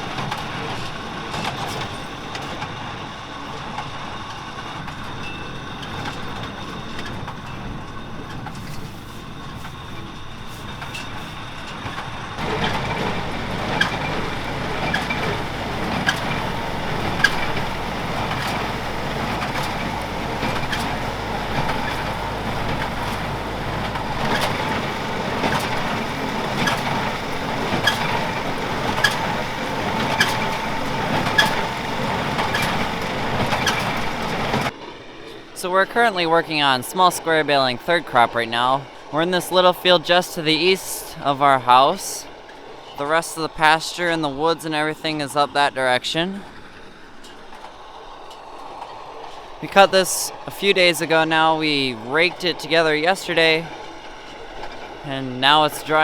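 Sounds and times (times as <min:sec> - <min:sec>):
diesel tractor running: 0:00.0 - 0:56.0.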